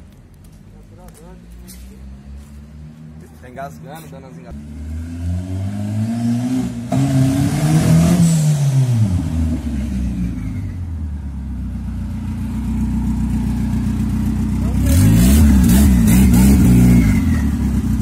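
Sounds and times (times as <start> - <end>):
car engine revving and idling: 0.9 - 18.0.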